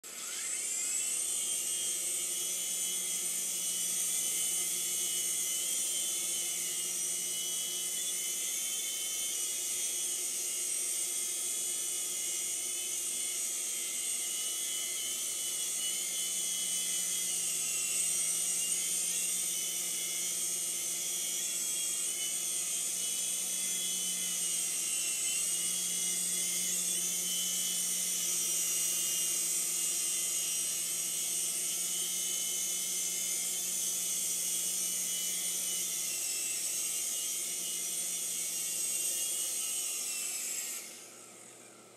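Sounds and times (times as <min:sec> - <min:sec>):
toy helicopter motor whine: 0:00.0 - 0:41.9.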